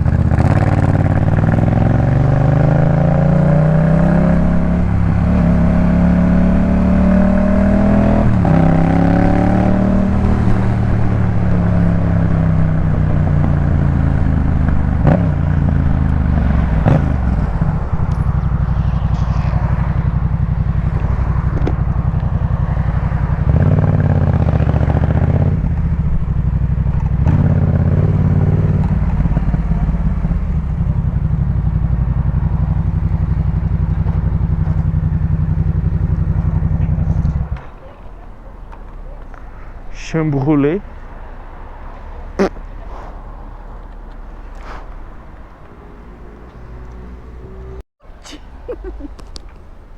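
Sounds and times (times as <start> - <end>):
motorcycle engine and exhaust: 0.0 - 49.9.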